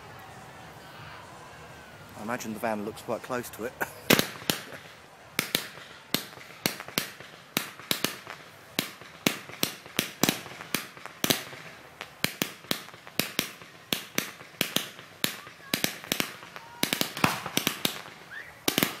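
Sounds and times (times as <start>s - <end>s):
fireworks bangs with echo: 2.2s - 19.0s.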